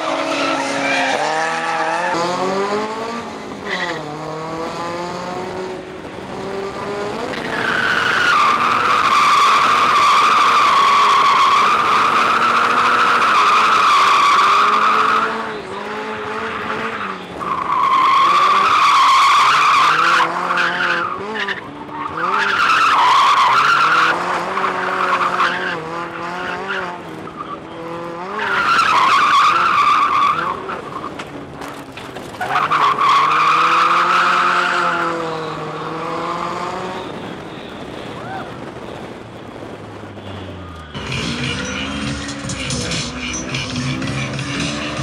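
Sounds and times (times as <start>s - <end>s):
car engine revving: 0.0s - 37.4s, 39.0s - 45.0s.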